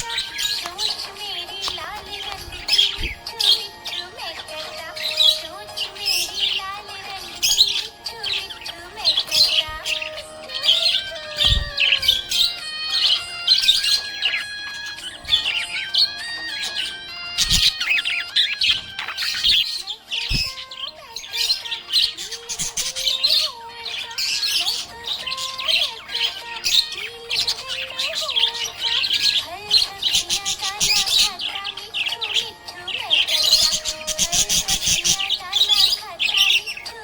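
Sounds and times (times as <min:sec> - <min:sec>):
budgerigar chirping and warbling: 0:00.0 - 0:37.0.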